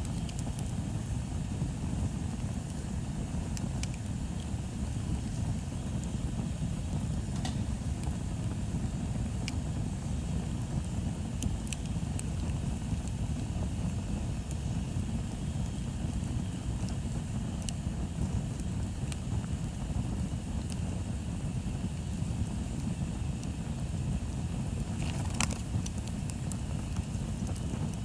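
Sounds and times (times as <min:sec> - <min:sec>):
bonfire low rumble: 0:00.0 - 0:28.0
wood crackles and pops: 0:00.0 - 0:28.0.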